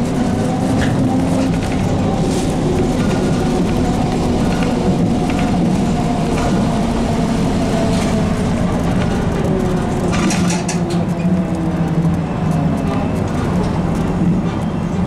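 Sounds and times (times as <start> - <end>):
trolleybus rumble: 0.0 - 15.0.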